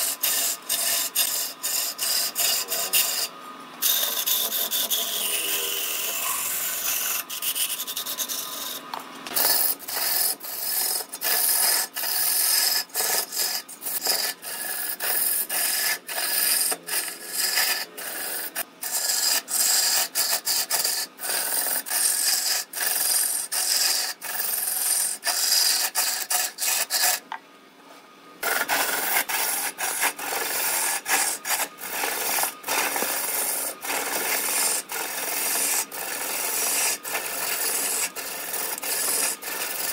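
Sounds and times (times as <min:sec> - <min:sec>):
lathe tool scraping wood: 0:00.0 - 0:27.2, 0:28.4 - 0:39.9.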